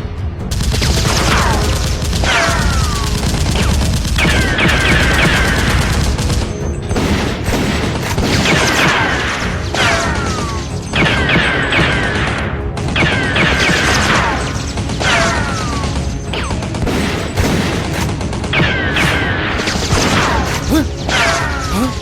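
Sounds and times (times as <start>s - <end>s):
action music: 0.0s - 22.0s
rapid gunfire: 0.5s - 22.0s.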